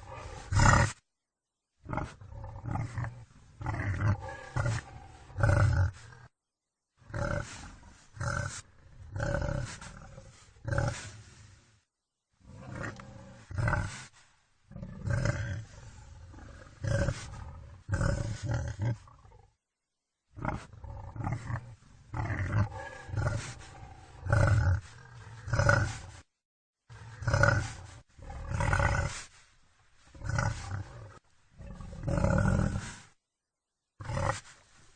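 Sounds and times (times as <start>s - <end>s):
wild boar grunting: 0.0s - 1.0s, 1.8s - 6.3s, 7.1s - 11.4s, 12.4s - 14.1s, 14.7s - 19.5s, 20.4s - 26.3s, 26.9s - 29.3s, 30.1s - 33.2s, 34.0s - 34.5s.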